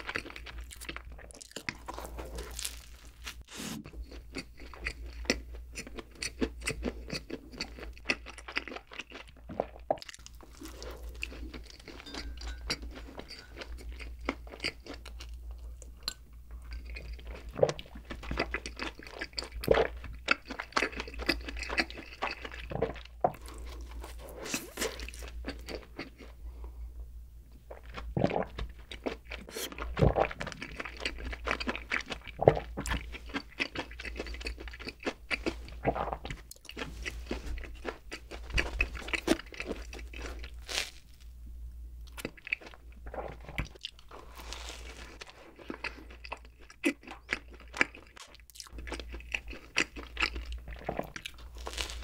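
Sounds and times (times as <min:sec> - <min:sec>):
chewing soft bread: 0:00.0 - 0:26.8, 0:27.5 - 0:41.4, 0:42.0 - 0:52.0.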